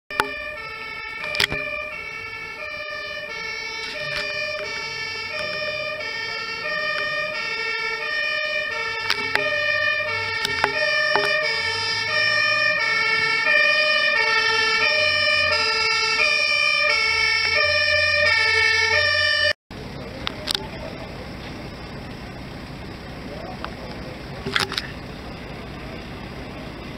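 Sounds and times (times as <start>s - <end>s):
two-tone sirens: 0.1s - 19.9s, 20.6s - 26.9s.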